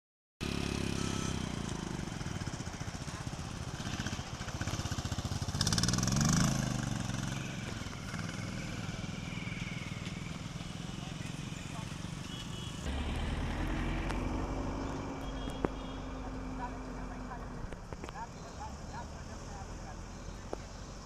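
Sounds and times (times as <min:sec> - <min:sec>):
motorcycle engine running: 0:00.4 - 0:21.0.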